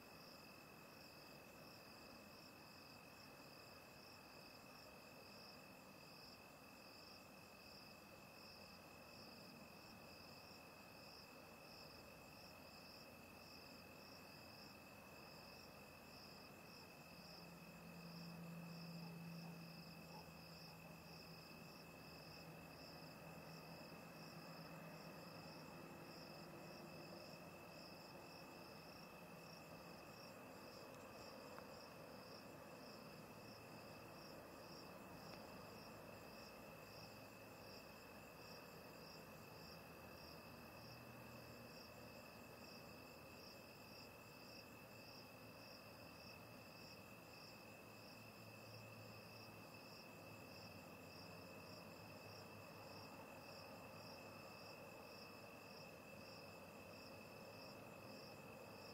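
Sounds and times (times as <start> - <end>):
insect chirping: 0.0 - 58.9.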